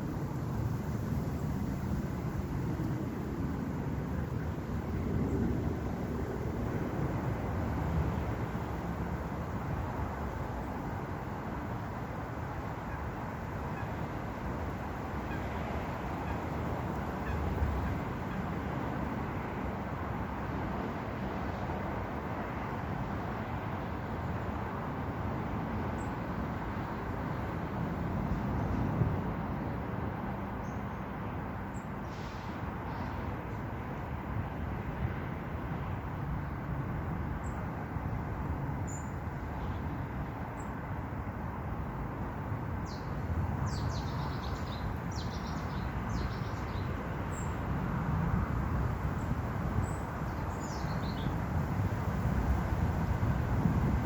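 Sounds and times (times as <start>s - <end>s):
rushing outdoor background noise: 0.0s - 54.0s.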